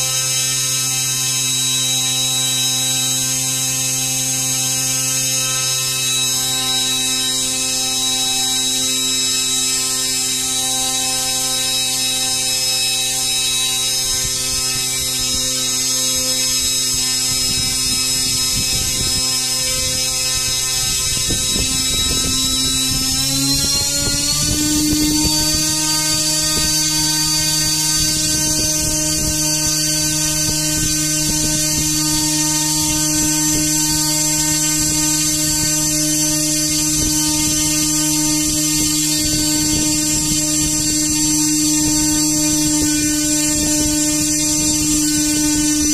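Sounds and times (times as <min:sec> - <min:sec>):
electric motor whining: 0:00.0 - 0:45.9.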